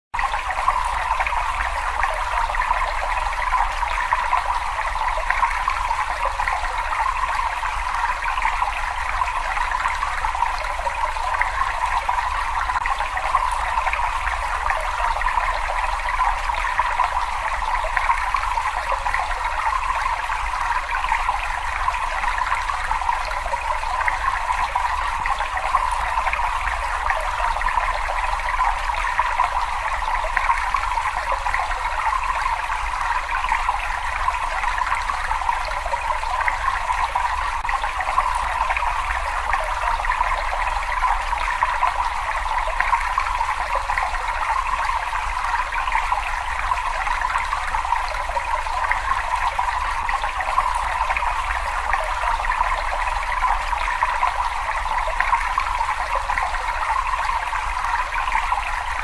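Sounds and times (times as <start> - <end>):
water running in cave: 0.2 - 59.0.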